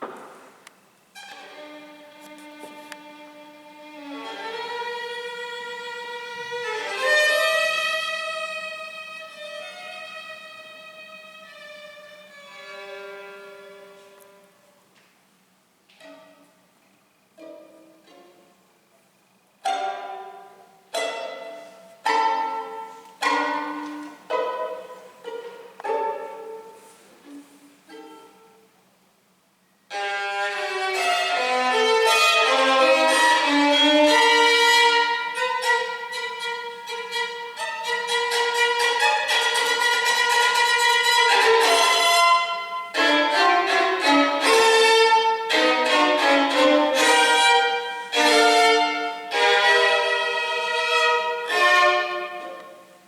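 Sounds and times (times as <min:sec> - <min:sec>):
bowed violin melody: 0:00.0 - 0:14.6, 0:19.6 - 0:28.7, 0:29.9 - 0:53.0
violin plucked notes: 0:00.0 - 0:14.6, 0:16.0 - 0:16.7, 0:17.3 - 0:18.8, 0:19.6 - 0:28.8, 0:29.9 - 0:53.0.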